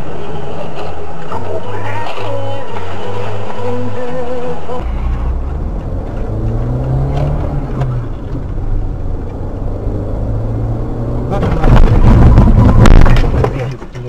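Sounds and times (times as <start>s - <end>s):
car engine running with road noise: 0.0s - 14.0s.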